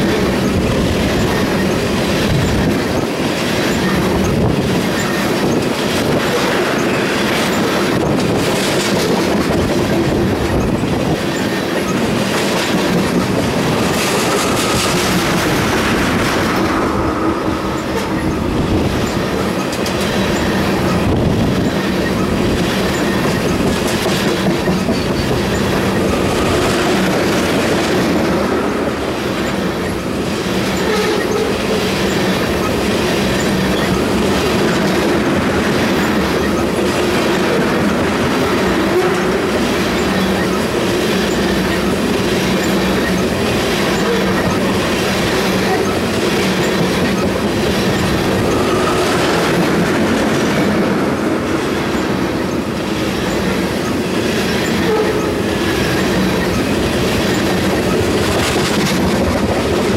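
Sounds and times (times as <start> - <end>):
train wheels rumbling on rail: 0.0 - 59.9
wheels clacking over rail joints: 0.0 - 59.9.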